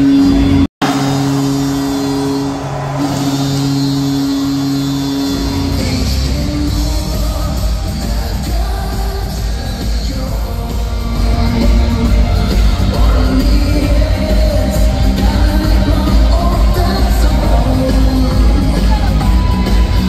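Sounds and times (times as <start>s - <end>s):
heavy bass beat: 0.0s - 20.0s
person singing: 0.0s - 20.0s
pop-rock music over loudspeakers: 0.0s - 20.0s.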